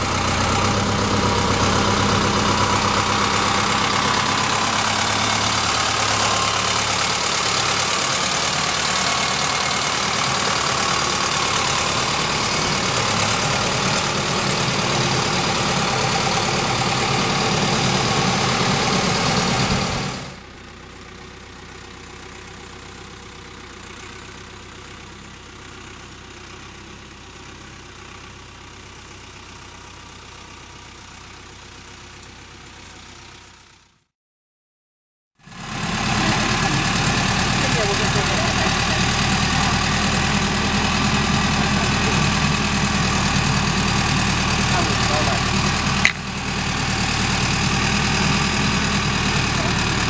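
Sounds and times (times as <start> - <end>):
tractor diesel engine running: 0.0 - 34.1, 35.4 - 50.0.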